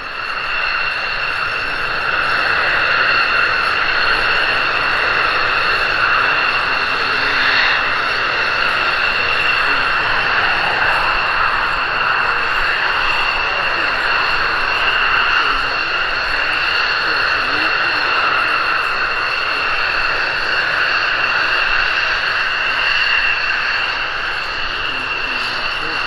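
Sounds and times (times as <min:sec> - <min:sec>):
jet engine whine: 0:00.0 - 0:26.0.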